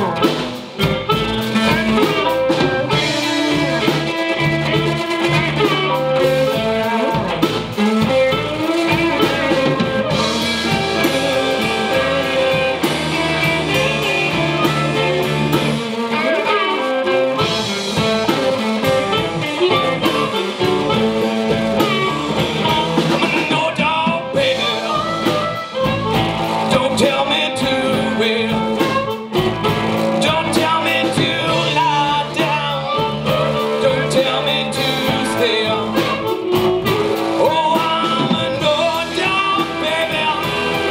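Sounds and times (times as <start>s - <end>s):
live blues band playing: 0.0s - 40.9s.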